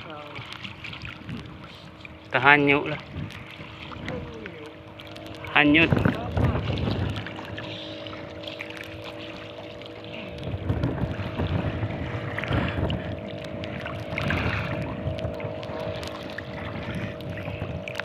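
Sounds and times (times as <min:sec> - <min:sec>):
strong wind: 0:00.0 - 0:18.0
water splashing against boat: 0:00.0 - 0:18.0.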